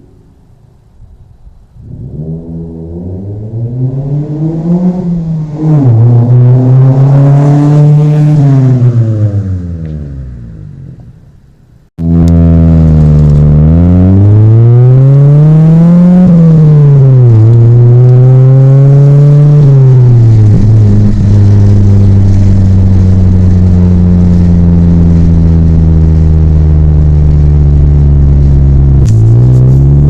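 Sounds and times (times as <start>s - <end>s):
car accelerating: 1.7s - 11.2s, 12.0s - 30.0s
car engine revving: 1.7s - 11.2s, 12.0s - 30.0s.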